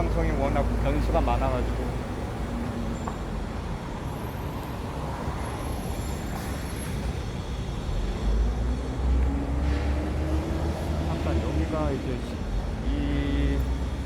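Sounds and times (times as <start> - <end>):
street traffic passing: 0.0 - 14.0.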